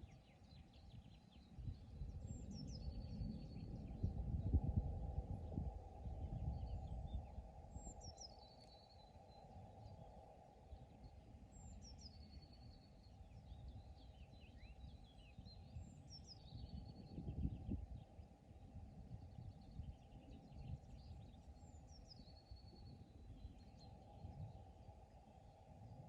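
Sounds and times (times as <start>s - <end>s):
songbird singing with trill: 0.0s - 4.6s, 5.4s - 10.1s, 10.7s - 26.0s.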